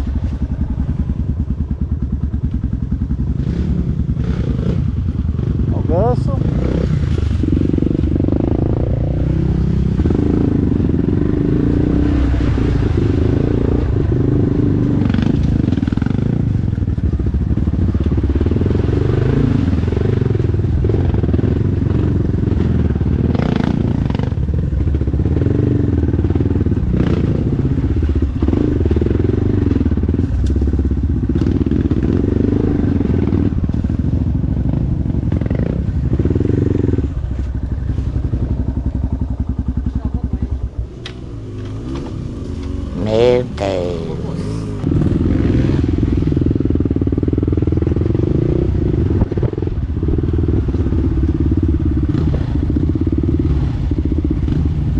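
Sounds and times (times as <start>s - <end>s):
dirt bike engine revving: 3.2s - 16.5s, 17.8s - 54.9s.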